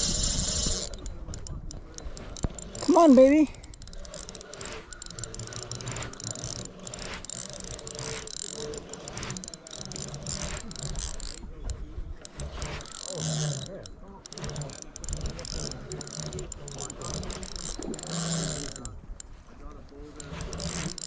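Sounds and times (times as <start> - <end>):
fishing reel ratchet clicking: 0.0 - 19.4, 20.1 - 21.0.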